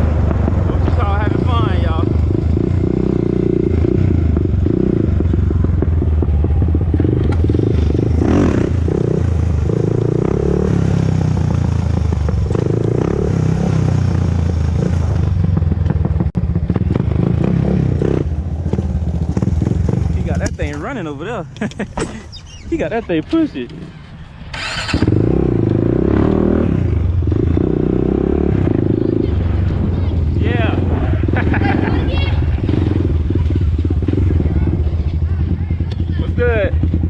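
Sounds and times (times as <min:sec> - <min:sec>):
quad bike engine running: 0:00.0 - 0:21.0, 0:23.7 - 0:37.0.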